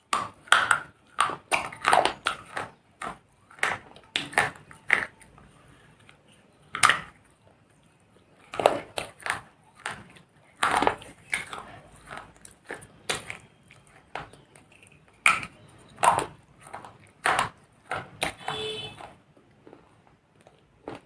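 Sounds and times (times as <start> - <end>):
clay pieces crunching when chewed: 0.0 - 21.0.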